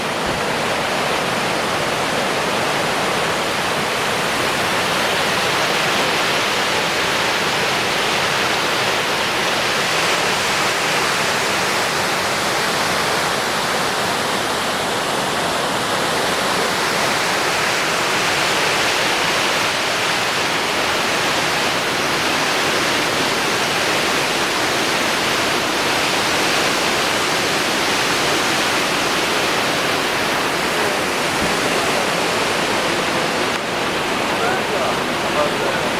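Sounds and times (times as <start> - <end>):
flooded creek rushing: 0.0 - 35.9.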